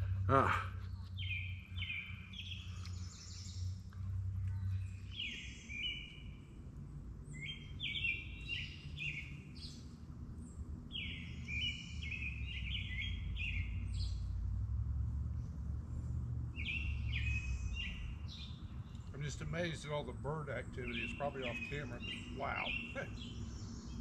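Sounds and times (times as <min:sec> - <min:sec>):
songbirds singing: 0:00.0 - 0:24.0
steady low hum: 0:00.0 - 0:24.0.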